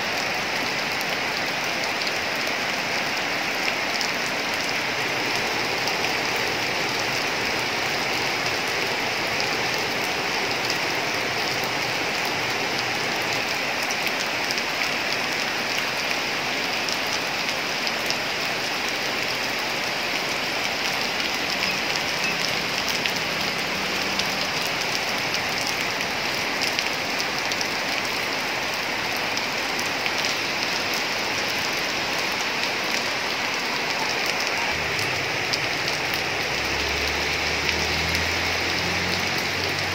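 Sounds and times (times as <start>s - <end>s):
rain on metal roofs: 0.0s - 39.9s.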